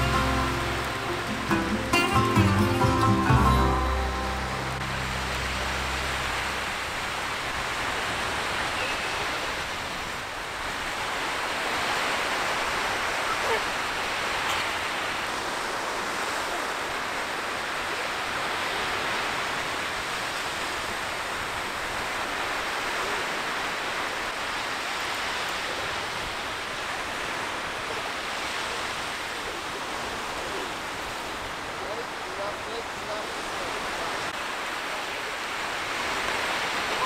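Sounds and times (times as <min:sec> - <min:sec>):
waves washing up a beach: 0:00.0 - 0:37.0.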